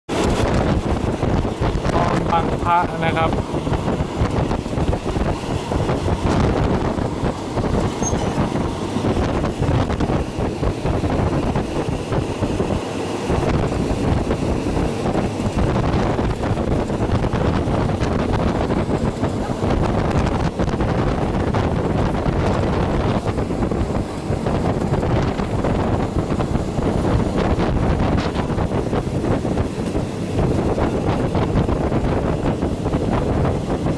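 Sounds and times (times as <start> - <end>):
train wheels rumbling on rails: 0.1 - 33.9.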